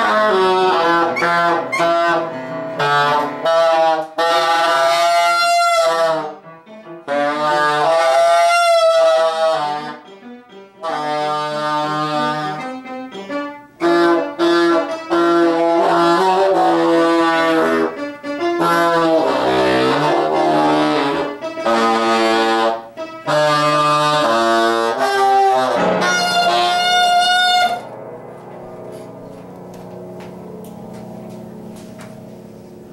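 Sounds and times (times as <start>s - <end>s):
saxophone playing: 0.0s - 27.9s.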